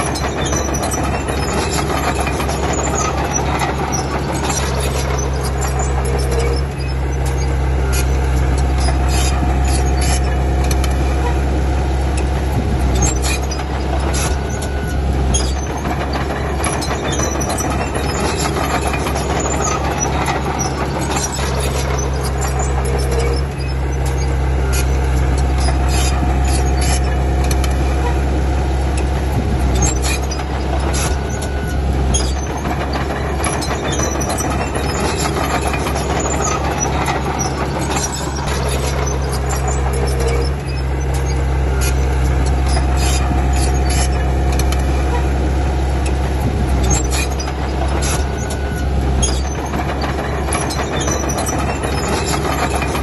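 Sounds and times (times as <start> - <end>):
bulldozer diesel engine drone: 0.0 - 53.0
steel tracks clanking and squealing: 0.0 - 53.0.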